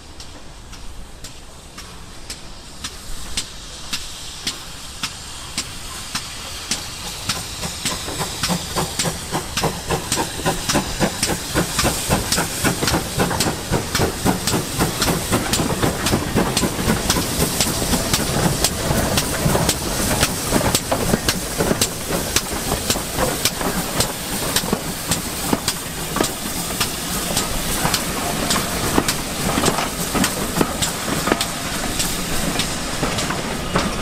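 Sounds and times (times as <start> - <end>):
steam hiss: 0.0 - 34.0
steam locomotive beats: 0.0 - 34.0.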